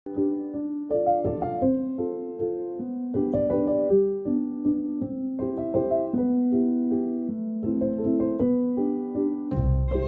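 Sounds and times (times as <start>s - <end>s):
gentle piano chords: 0.1s - 10.0s.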